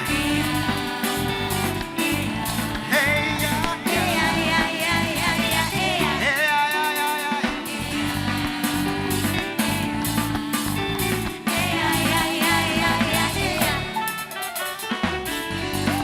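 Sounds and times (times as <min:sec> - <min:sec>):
drums: 0:00.0 - 0:16.0
gospel band playing: 0:00.0 - 0:16.0.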